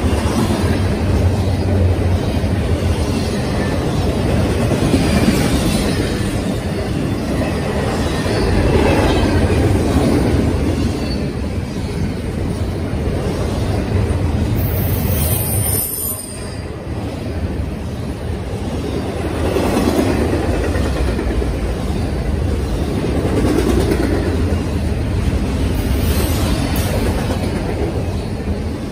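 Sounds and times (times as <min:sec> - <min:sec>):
freight train rumbling past: 0:00.0 - 0:28.9.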